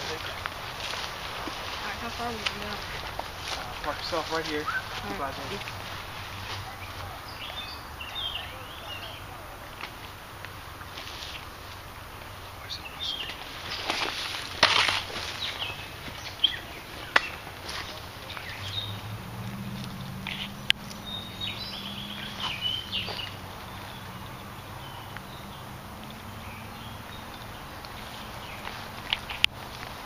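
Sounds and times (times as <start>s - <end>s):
birds chirping: 0.0s - 30.0s
footsteps through undergrowth: 0.0s - 30.0s.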